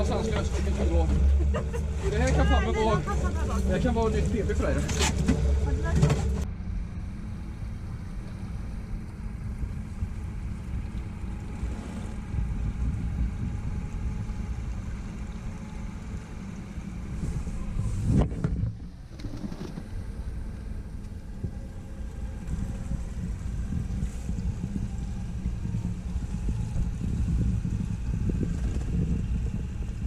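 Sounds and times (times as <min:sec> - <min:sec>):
boat engine rumbling: 0:00.0 - 0:30.0.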